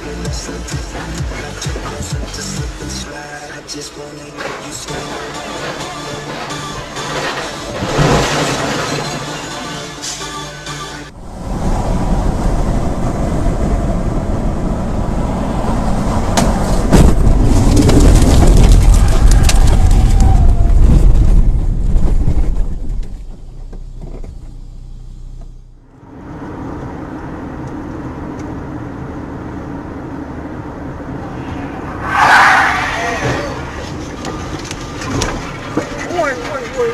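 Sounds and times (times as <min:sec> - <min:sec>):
vehicle engine and road rumble: 0:00.0 - 0:36.9.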